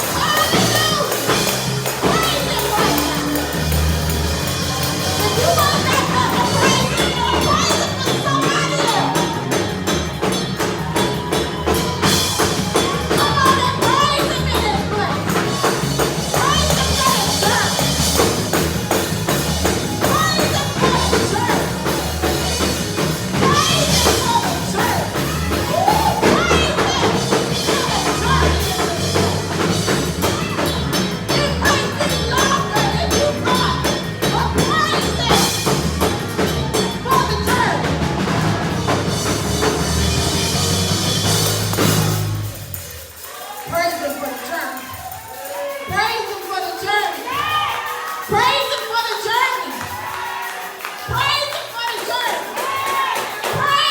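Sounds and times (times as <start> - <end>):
voices singing and shouting: 0.0 - 41.0, 43.1 - 53.9
gospel band playing: 0.0 - 53.9
tambourine: 0.0 - 53.9.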